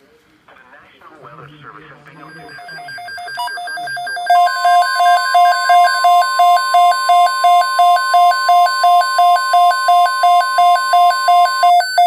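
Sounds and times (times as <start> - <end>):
weather radio alarm tone: 2.1 - 12.0
rapid electronic beeps: 2.2 - 12.0.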